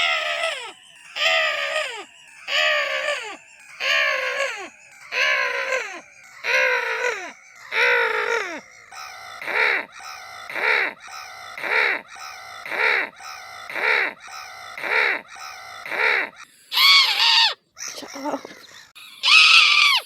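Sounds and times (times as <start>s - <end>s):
crow cawing: 0.0s - 17.6s, 19.2s - 20.0s.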